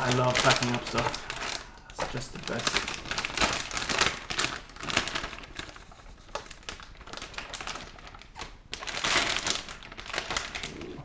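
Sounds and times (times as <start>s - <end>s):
box and plastic bag handled: 0.0s - 10.9s.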